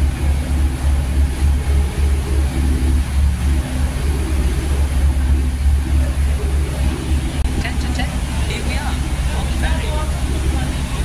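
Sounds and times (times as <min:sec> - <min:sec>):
ferry engine throbbing: 0:00.0 - 0:11.0
wind and water hiss: 0:00.0 - 0:11.0.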